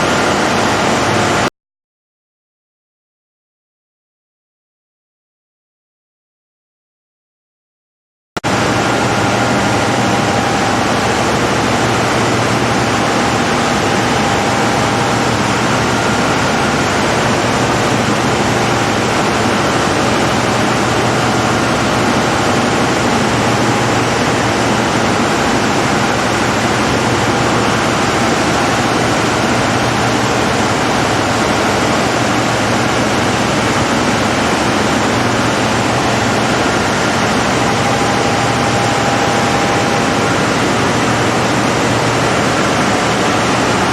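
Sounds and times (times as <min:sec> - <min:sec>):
diesel generator running: 0:00.0 - 0:01.5, 0:08.4 - 0:43.9
faint high whine: 0:08.5 - 0:43.9.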